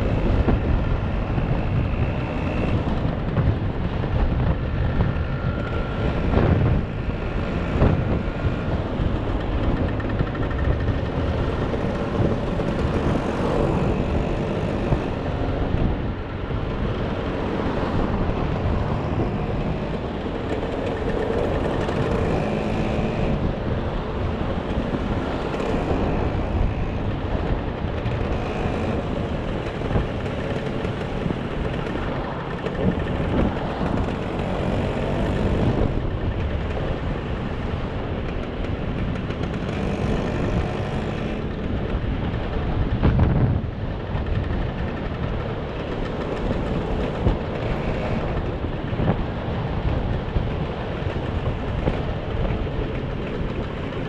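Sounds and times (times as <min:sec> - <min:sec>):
motor scooter engine droning: 0:00.0 - 0:54.0.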